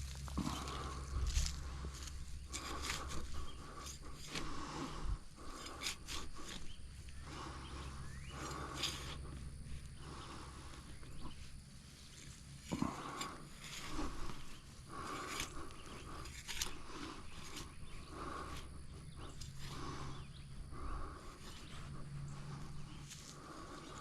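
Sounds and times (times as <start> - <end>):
man breathing hard: 0.0 - 24.0.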